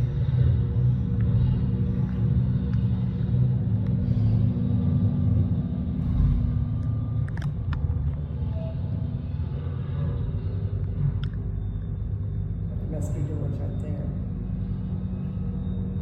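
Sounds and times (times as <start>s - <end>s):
low mechanical rumble and hum: 0.0s - 16.0s.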